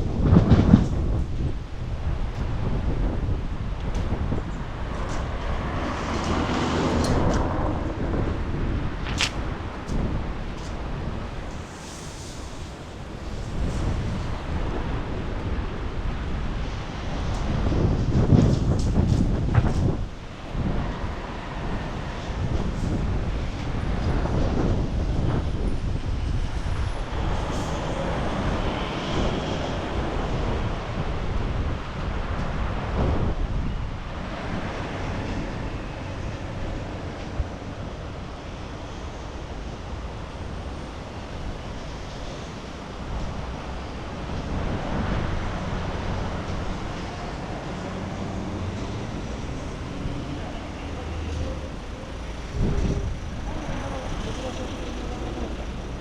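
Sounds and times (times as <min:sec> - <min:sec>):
passing vehicle engines: 0:00.0 - 0:56.0
wind buffeting microphone: 0:00.0 - 0:56.0.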